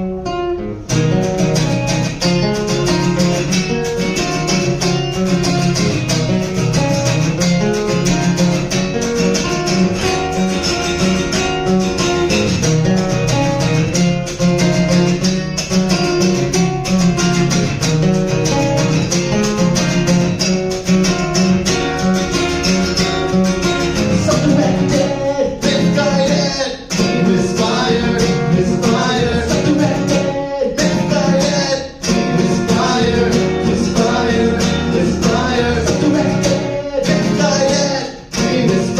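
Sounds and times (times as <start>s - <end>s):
live band music with guitar: 0.0s - 38.9s.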